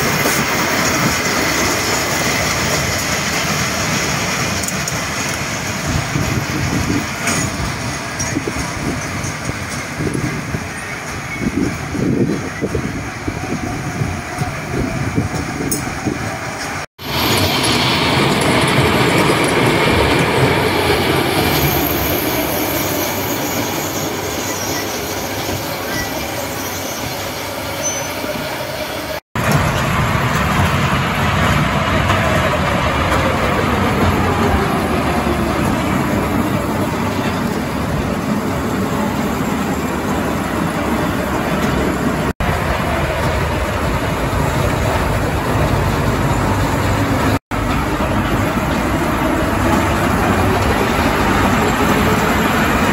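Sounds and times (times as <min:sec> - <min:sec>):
roller coaster wheels rumbling: 0:00.0 - 0:52.9.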